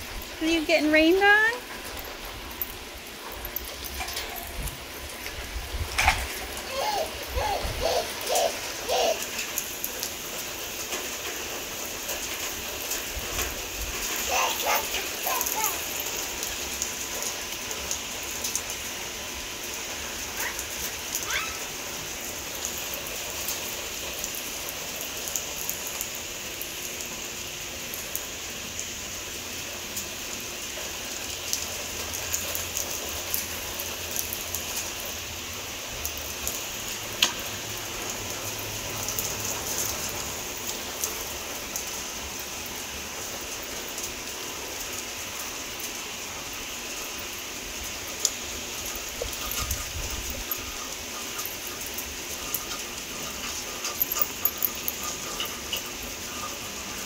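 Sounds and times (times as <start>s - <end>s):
rain hiss: 0.0s - 57.0s
raindrops ticking on surfaces: 0.0s - 57.0s.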